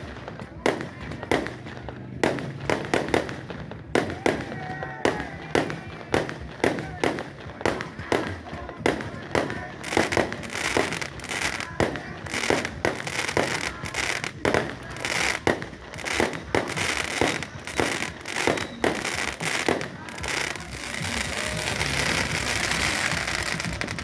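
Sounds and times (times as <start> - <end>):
fireworks bangs: 0.0 - 24.0
fireworks crackle: 0.0 - 24.0.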